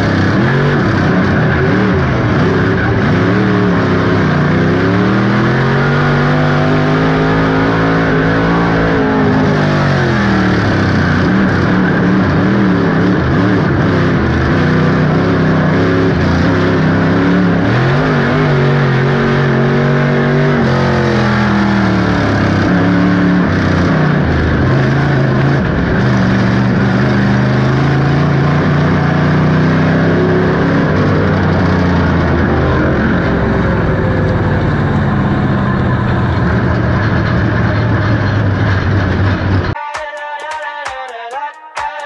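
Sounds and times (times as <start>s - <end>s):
race car engine running hard: 0.0s - 39.8s
track noise: 0.0s - 42.0s.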